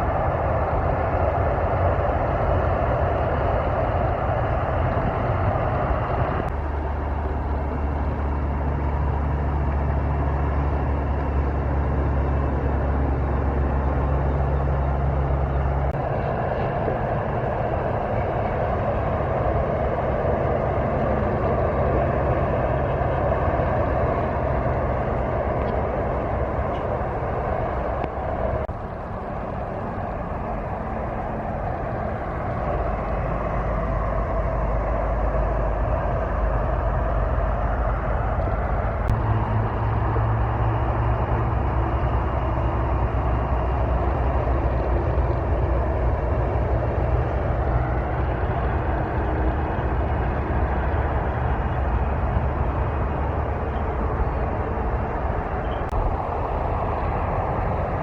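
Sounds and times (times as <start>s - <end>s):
heavy truck engine droning: 0.0s - 58.0s
road noise: 0.0s - 58.0s.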